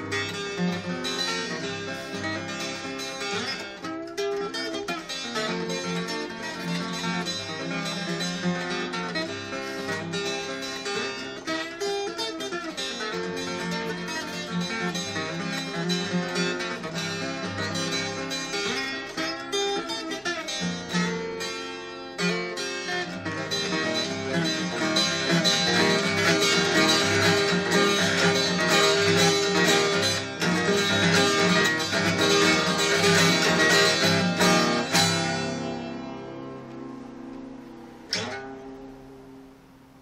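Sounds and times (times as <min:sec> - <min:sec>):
fingerpicked acoustic guitar: 0:00.0 - 0:40.0.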